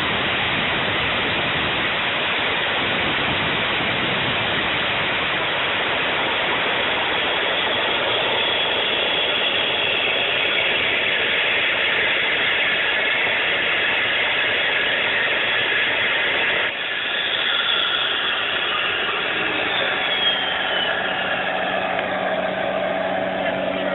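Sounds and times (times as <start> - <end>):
jet engine rushing: 0.0 - 23.9.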